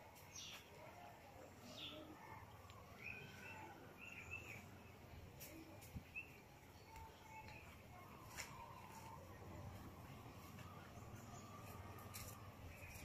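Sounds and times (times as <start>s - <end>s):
distant birds chirping: 1.6s - 13.0s.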